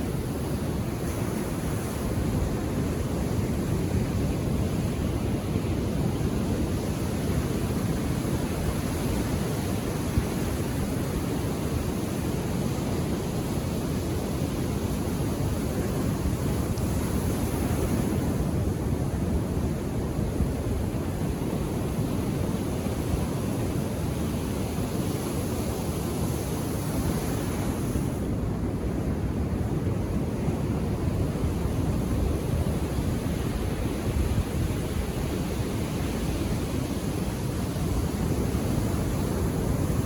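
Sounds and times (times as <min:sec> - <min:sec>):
surf washing onto a beach: 0:00.0 - 0:40.0.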